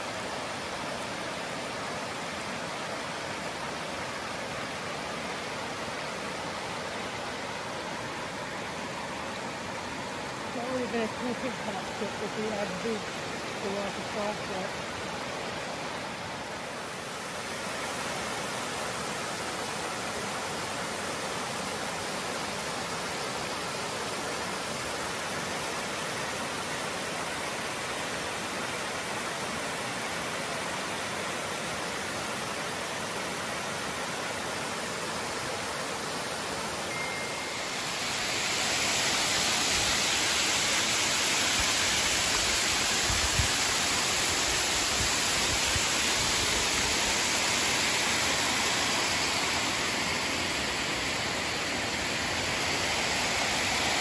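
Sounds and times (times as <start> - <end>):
water rushing over a dam: 0.0 - 54.0.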